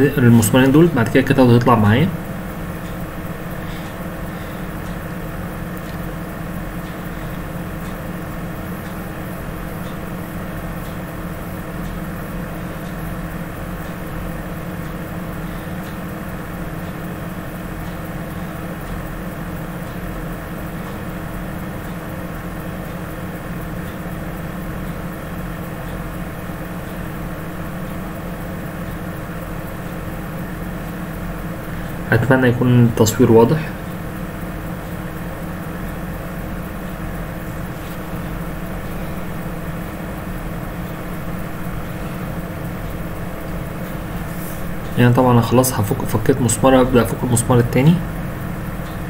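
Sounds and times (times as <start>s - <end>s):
machine hum: 0.0s - 49.0s.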